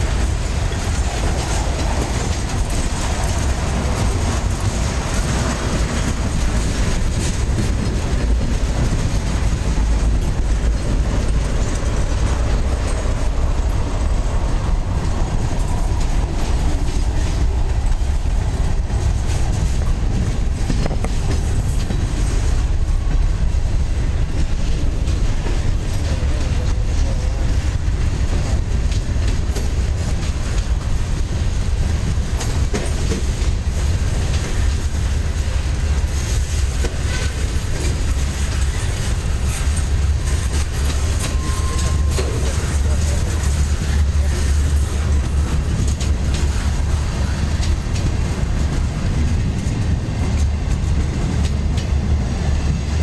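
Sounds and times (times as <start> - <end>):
clicks of train wheels: 0.0 - 53.0
train wheels rumbling on rail: 0.0 - 53.0.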